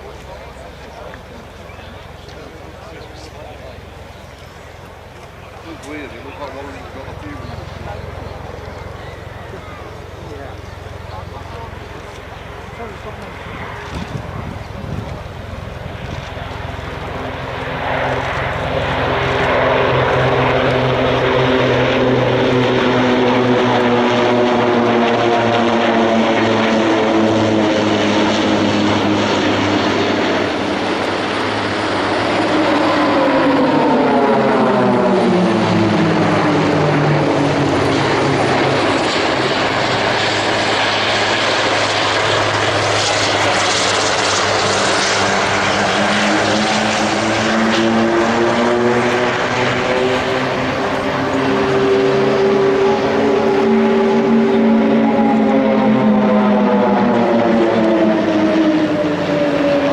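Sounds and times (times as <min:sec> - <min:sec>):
propeller planes flying by: 0:00.0 - 0:59.9.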